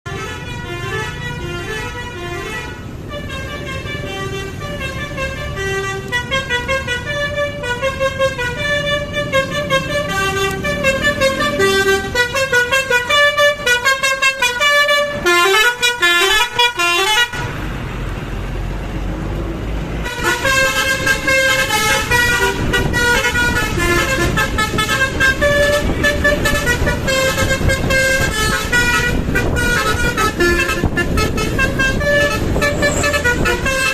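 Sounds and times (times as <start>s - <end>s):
multi-tone air horn melody: 0.1s - 17.5s, 20.0s - 33.9s.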